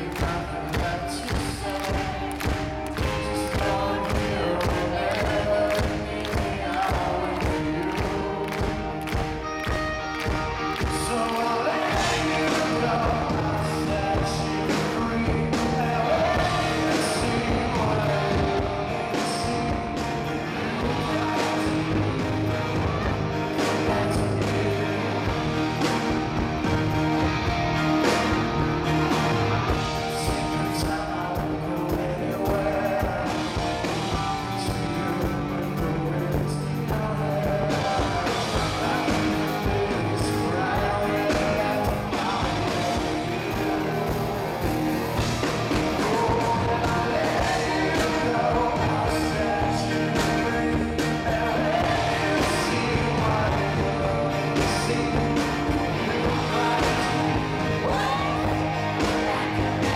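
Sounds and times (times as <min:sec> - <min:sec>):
male lead vocal singing: 0:00.0 - 0:27.4, 0:28.0 - 0:59.9
live rock band playing: 0:00.0 - 0:59.9.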